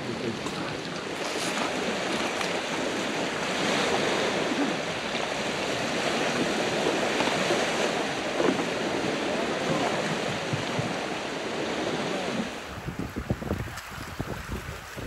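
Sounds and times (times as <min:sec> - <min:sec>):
waves washing onto stony shore: 0:00.0 - 0:15.0
wind: 0:00.0 - 0:15.0.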